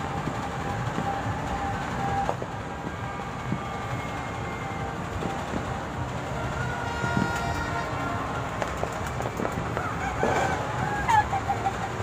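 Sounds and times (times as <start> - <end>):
distant fireworks rumble: 0.0 - 12.0.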